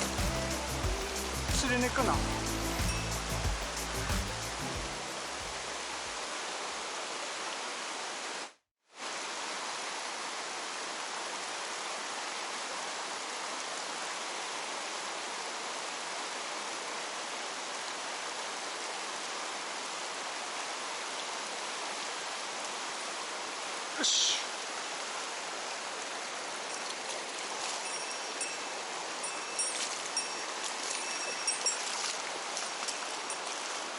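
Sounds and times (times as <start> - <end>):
stream water rushing: 0.0 - 33.9.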